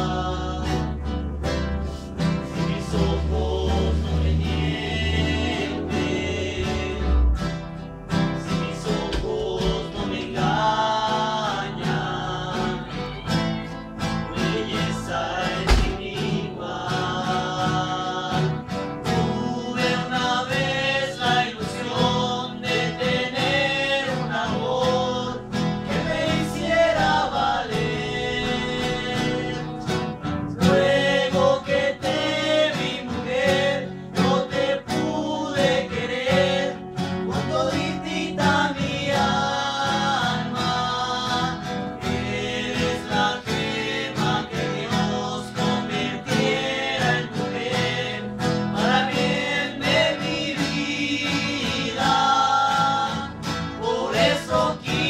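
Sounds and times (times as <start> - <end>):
acoustic guitars strummed: 0.0 - 55.0
men singing in harmony: 0.0 - 55.0.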